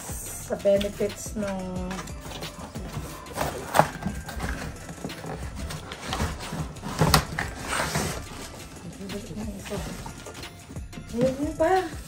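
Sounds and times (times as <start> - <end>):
plastic wrapping crinkling: 1.9 - 12.0.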